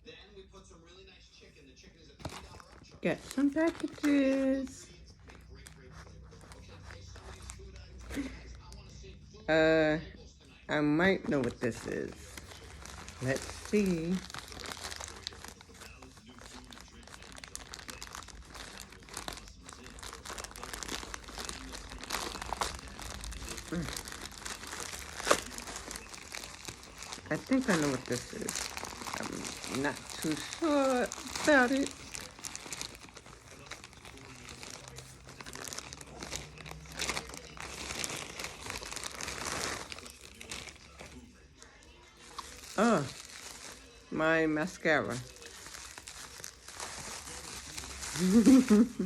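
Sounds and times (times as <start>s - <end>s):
package wrapping crinkling: 2.2s - 8.8s, 11.1s - 44.1s, 44.7s - 49.0s.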